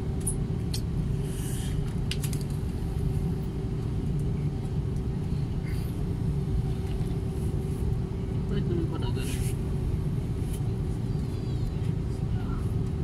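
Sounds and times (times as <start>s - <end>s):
jet engines heard inside cabin: 0.0s - 13.0s.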